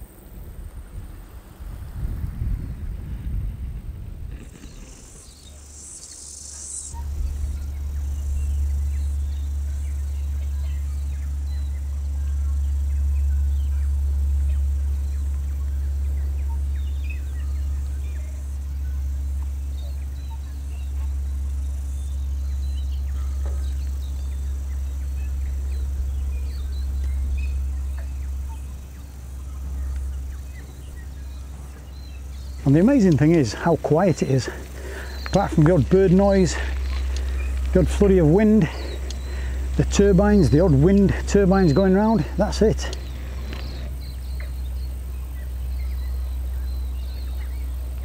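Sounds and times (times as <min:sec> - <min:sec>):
steady low rumble: 0:00.0 - 0:48.0
faint bird chirps: 0:04.4 - 0:48.0.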